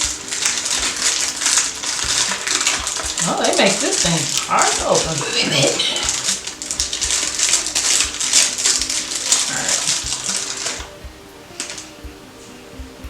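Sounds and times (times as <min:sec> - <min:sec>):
candy wrapper crinkling: 0:00.0 - 0:10.8
soft background music: 0:00.0 - 0:13.0.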